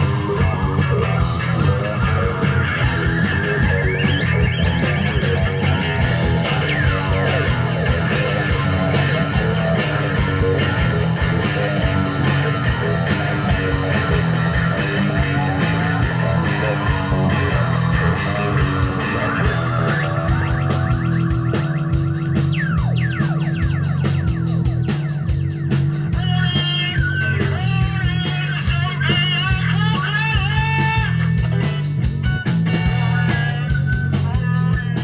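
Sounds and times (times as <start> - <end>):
bass guitar: 0.0 - 35.0
drum kit: 0.0 - 35.0
electric guitars: 0.0 - 35.0.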